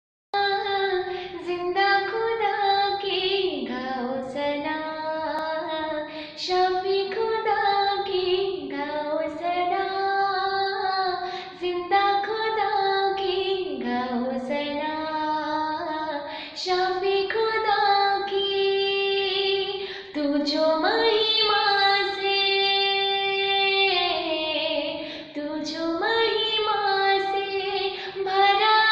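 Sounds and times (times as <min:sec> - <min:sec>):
woman singing worship song: 0:00.4 - 0:28.9.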